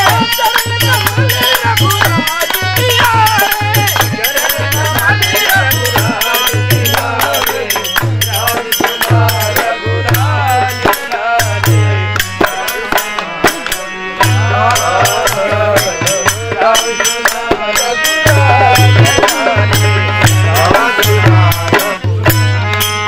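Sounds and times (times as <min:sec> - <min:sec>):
person singing: 0:00.0 - 0:22.4
harmonium and drum playing: 0:00.0 - 0:23.0
jingling hand percussion: 0:00.0 - 0:23.0.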